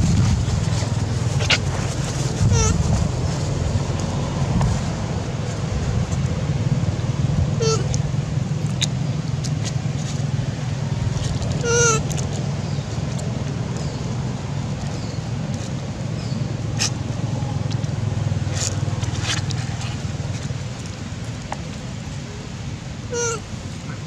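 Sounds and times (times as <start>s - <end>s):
dry leaf crackling: 0.0s - 23.8s
low motor rumble: 0.0s - 24.0s.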